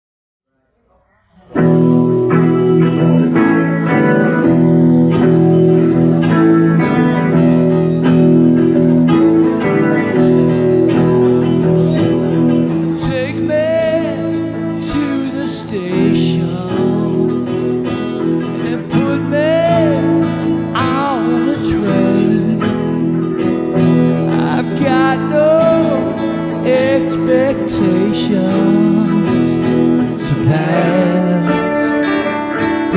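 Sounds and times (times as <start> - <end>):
live band with guitars: 1.4 - 32.9.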